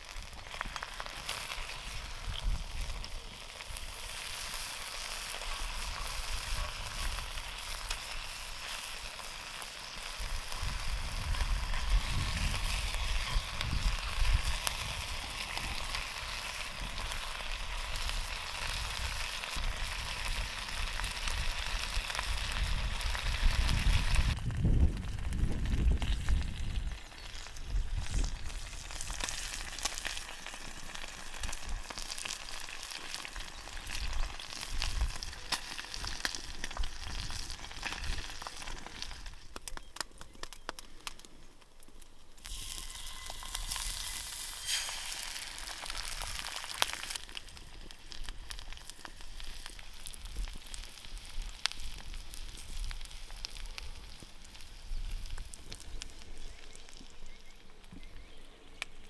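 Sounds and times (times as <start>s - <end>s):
fire crackles: 0.0s - 59.0s
food sizzling over a campfire: 0.0s - 59.0s.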